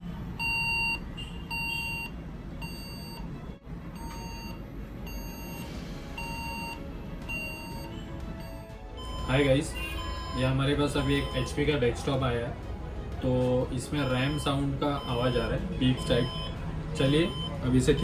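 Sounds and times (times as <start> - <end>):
short electronic beeps: 0.4 - 3.3, 4.0 - 11.6, 14.0 - 18.0.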